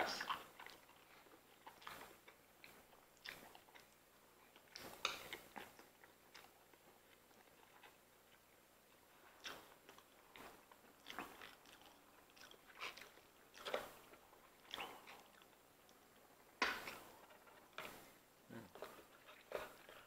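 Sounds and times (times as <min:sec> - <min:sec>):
people chewing: 0:00.0 - 0:20.0.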